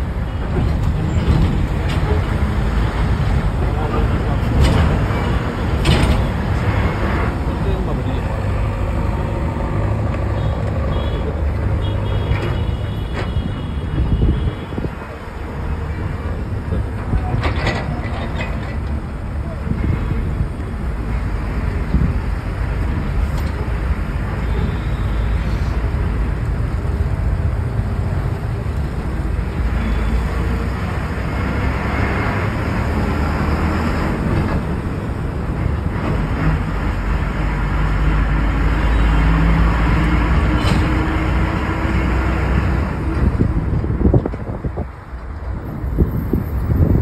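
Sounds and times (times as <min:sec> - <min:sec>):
bus engine and road rumble: 0:00.0 - 0:47.0.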